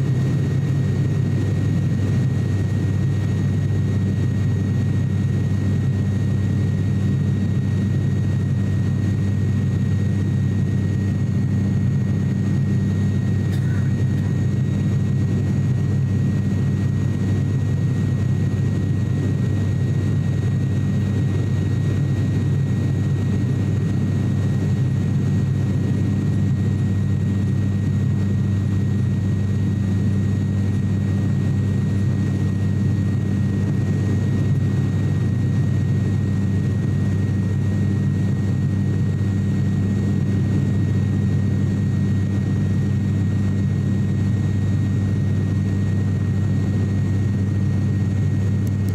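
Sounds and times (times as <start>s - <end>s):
propeller engine drone: 0.0s - 48.9s.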